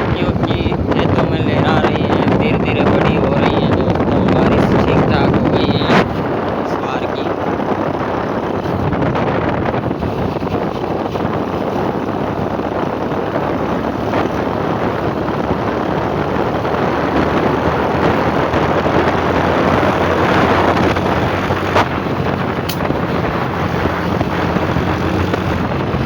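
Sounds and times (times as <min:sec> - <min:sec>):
motorcycle engine running: 0:00.0 - 0:26.0
wind rushing over microphone: 0:00.0 - 0:26.0.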